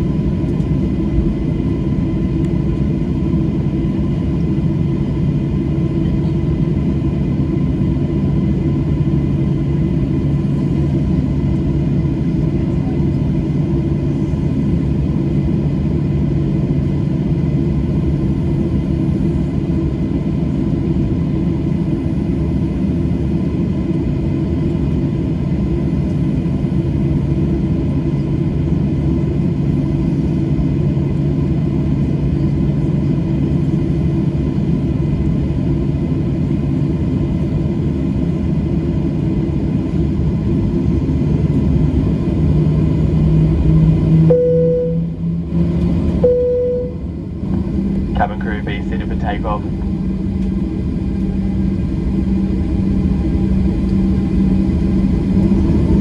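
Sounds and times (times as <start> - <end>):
constant cabin hums: 0.0 - 56.0
jet engines rumbling in cabin: 0.0 - 56.0.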